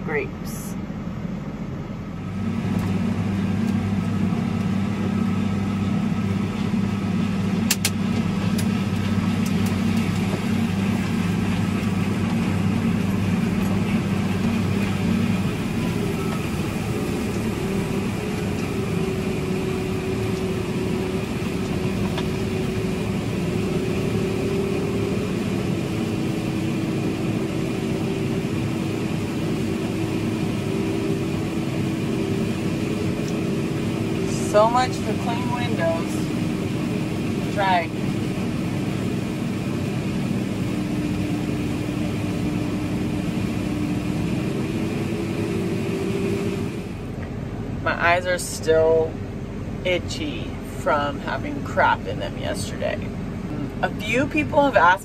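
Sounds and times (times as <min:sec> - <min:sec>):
combine harvester: 0:00.0 - 0:55.0
tractor engine running: 0:00.0 - 0:55.0.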